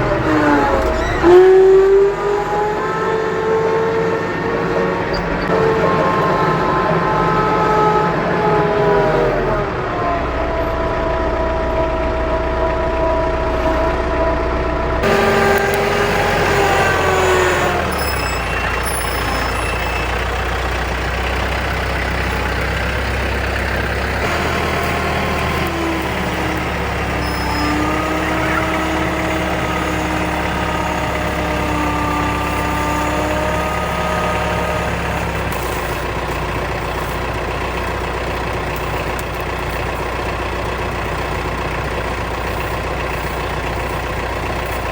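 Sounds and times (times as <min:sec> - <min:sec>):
vehicle engine humming: 0:00.0 - 0:44.9
whining tones: 0:00.0 - 0:44.9.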